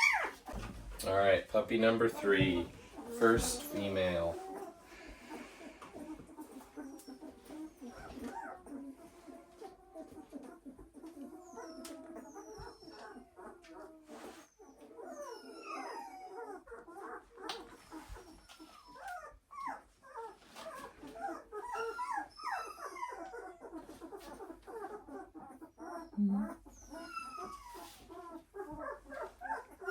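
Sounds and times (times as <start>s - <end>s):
puppies whimpering and squealing: 0.0s - 29.9s.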